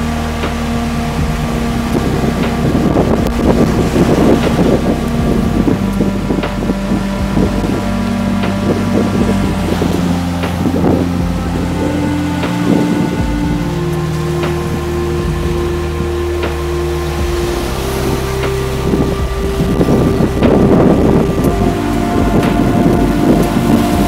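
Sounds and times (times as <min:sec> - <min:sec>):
music of sustained chords: 0:00.0 - 0:24.0
steady rushing noise: 0:00.0 - 0:24.0.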